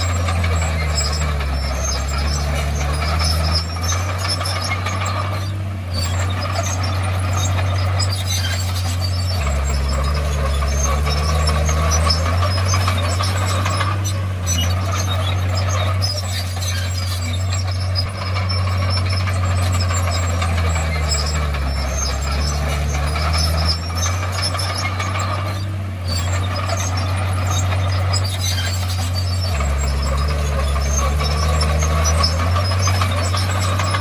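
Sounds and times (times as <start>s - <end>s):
bulldozer diesel engine drone: 0.0s - 34.0s
clanking and rattling: 0.0s - 34.0s.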